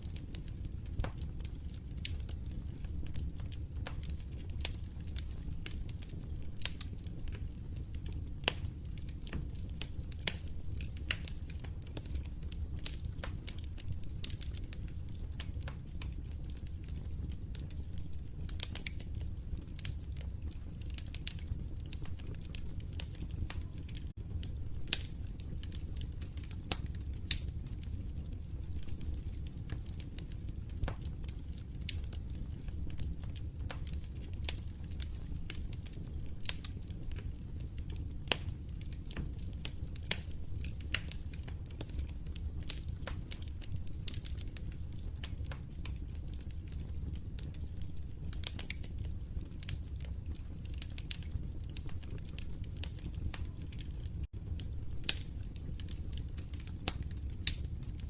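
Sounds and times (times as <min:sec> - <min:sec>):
log fire crackling: 0:00.0 - 0:58.0.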